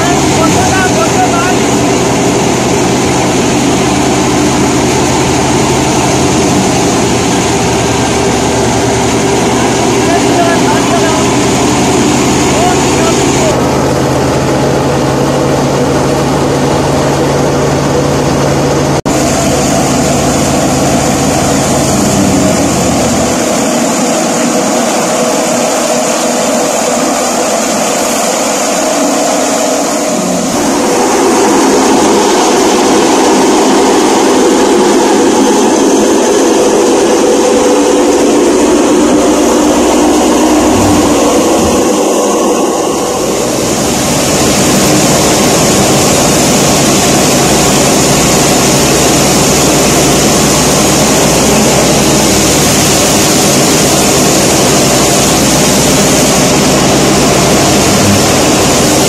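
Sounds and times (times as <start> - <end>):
deep mechanical hum: 0.0 - 59.0
threshing machine running: 0.0 - 59.0.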